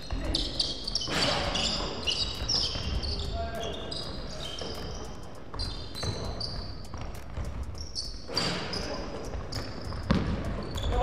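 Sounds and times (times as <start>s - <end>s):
basketball bouncing: 0.0s - 11.0s
sneakers squeaking on floor: 0.0s - 11.0s.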